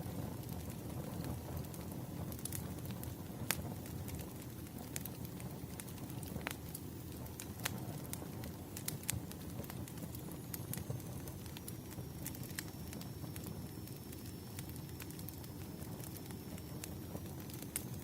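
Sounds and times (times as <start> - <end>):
fire pops and snaps: 0.0 - 18.0
wood fire crackling: 0.0 - 18.0.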